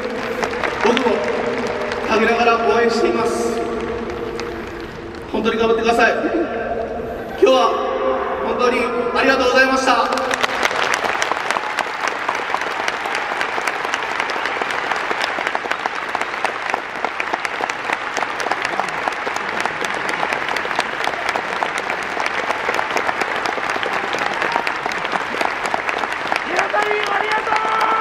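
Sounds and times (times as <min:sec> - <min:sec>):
stadium crowd applauding: 0:00.0 - 0:06.1, 0:09.5 - 0:28.0.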